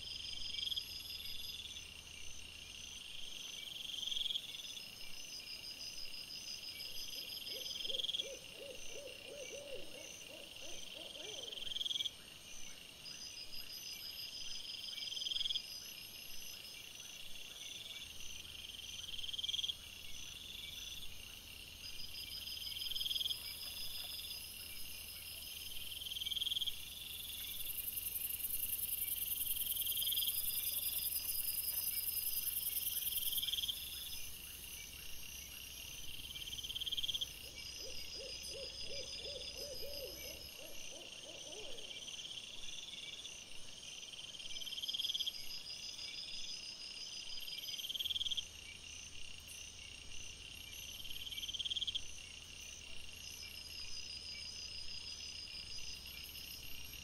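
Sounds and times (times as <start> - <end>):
night insects chirping: 0.0 - 57.0.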